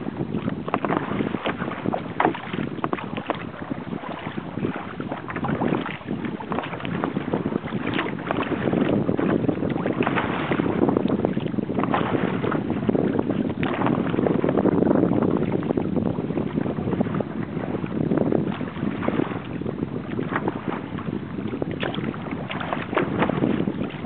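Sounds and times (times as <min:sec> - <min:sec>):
water slapping against hull: 0:00.0 - 0:24.0
wind buffeting microphone: 0:00.0 - 0:24.0.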